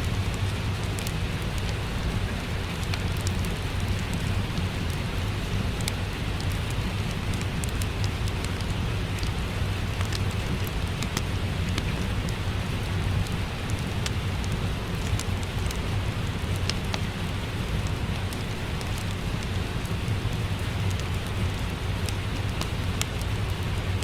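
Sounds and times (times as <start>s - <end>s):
steady rain: 0.0s - 24.0s
wood fire crackling: 0.0s - 24.0s.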